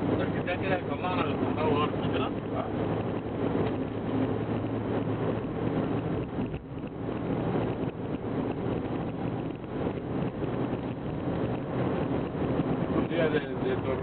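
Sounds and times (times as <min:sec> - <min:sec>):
vehicle droning: 0:00.0 - 0:14.0
sandstorm wind rushing: 0:02.2 - 0:14.0.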